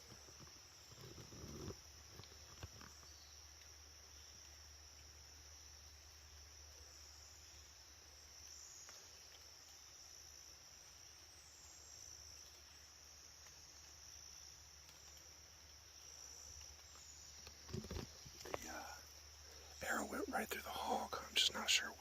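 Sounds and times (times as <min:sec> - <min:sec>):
faint ticks: 0:00.0 - 0:22.0
insects trilling: 0:00.0 - 0:22.0.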